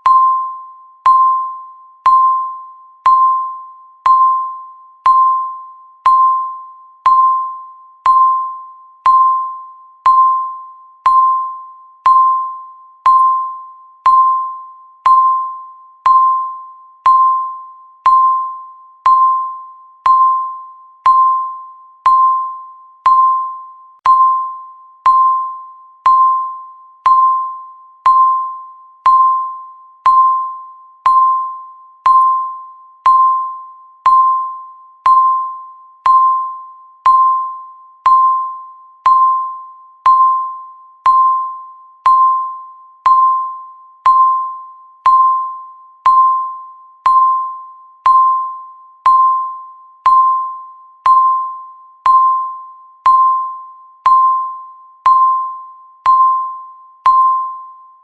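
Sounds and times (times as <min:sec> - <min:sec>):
timer ringing ding: 0:00.0 - 0:58.0.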